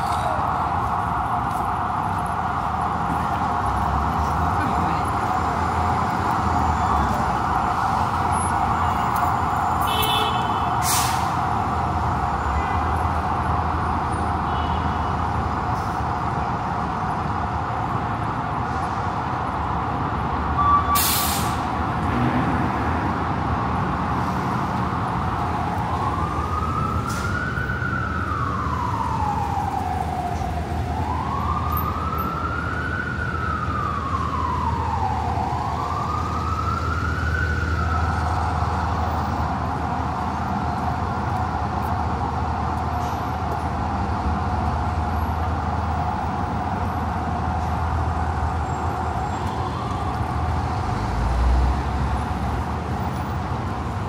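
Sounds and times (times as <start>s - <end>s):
city street traffic: 0.0s - 54.0s
emergency siren wailing: 0.0s - 54.0s.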